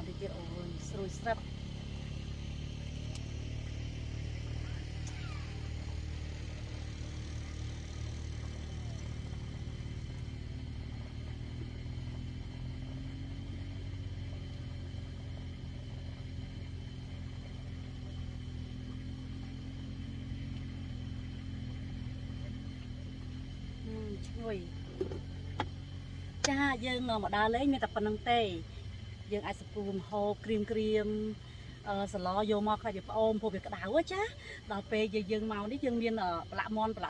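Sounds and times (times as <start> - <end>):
low engine rumble: 0.0 - 37.0.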